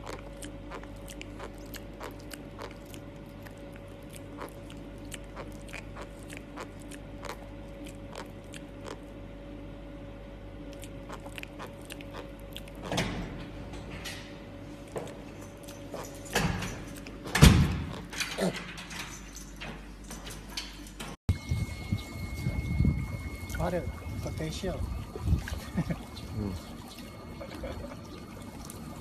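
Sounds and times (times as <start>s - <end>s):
piglet chewing and smacking: 0.0s - 9.3s, 10.6s - 13.0s, 14.7s - 18.6s, 21.4s - 29.0s
faint steady hum: 0.0s - 29.0s.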